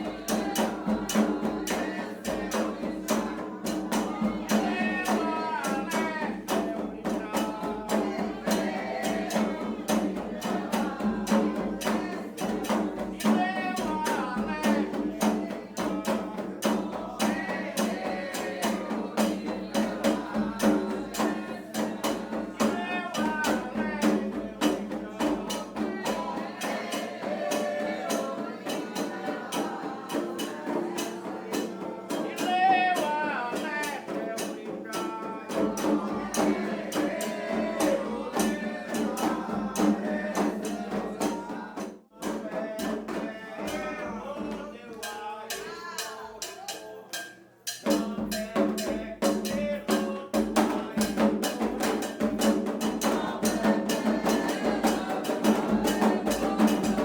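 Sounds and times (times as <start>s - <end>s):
fast hand drum beat: 0.0s - 57.0s
voices singing: 0.0s - 57.0s.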